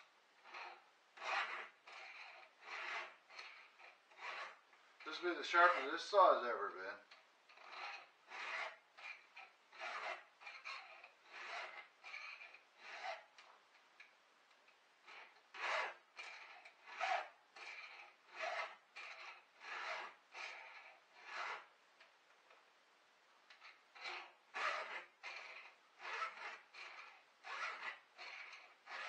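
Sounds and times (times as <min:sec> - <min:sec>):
file rasping on chainsaw chain: 0:00.4 - 0:13.5, 0:15.1 - 0:21.7, 0:23.5 - 0:29.0.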